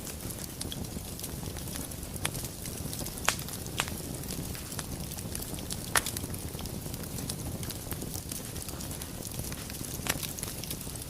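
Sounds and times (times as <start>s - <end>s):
fire pops and snaps: 0.0s - 11.0s
low rumble of flames: 0.0s - 11.0s.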